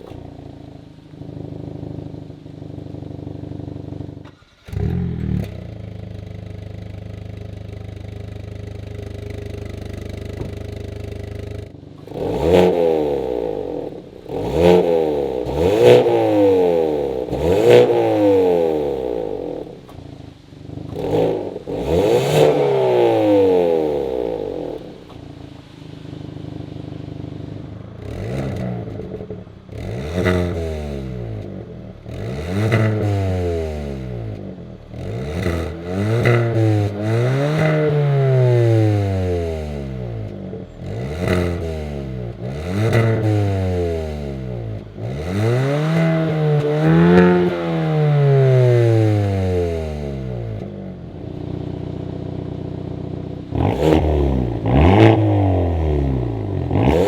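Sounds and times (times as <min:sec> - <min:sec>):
car engine idling: 0:00.0 - 0:57.0
car engine revving: 0:00.0 - 0:57.0
exhaust crackling pops: 0:00.0 - 0:57.0.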